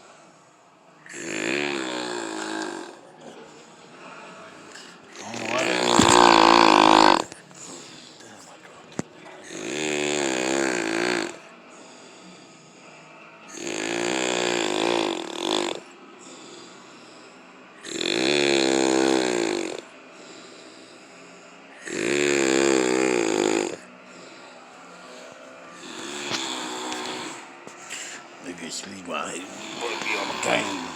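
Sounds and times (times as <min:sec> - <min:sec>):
quiet breathing: 0:00.0 - 0:30.9
man snoring: 0:01.0 - 0:30.9.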